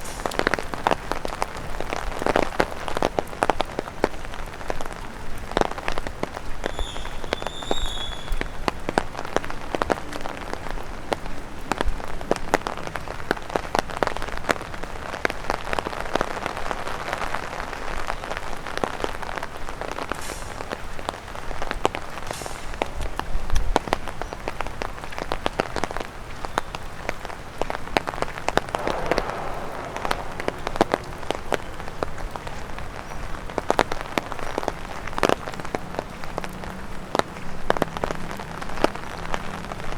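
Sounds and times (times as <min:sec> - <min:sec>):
steady hiss of rain: 0:00.0 - 0:39.9.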